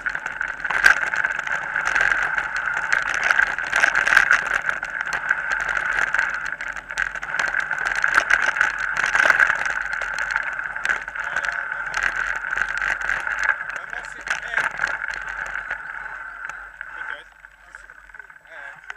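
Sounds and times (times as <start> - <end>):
bike knocking over bumps: 0.0 - 18.9
bike rattling on dirt track: 0.0 - 18.9.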